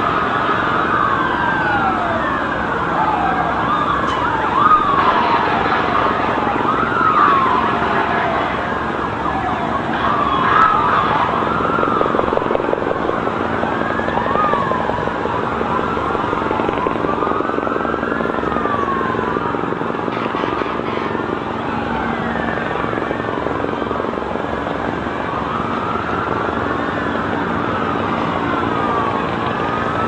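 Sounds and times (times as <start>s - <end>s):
emergency sirens wailing: 0.0s - 30.0s.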